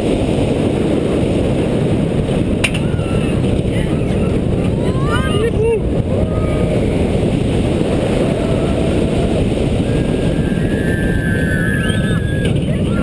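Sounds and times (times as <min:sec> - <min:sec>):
roller coaster train rumble: 0:00.0 - 0:13.0
wind rush on microphone: 0:00.0 - 0:13.0.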